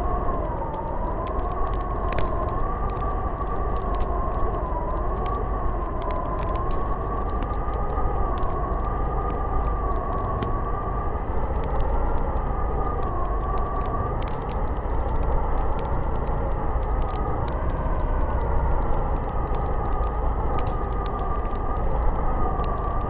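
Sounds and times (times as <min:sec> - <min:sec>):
howling snowstorm wind: 0:00.0 - 0:23.0.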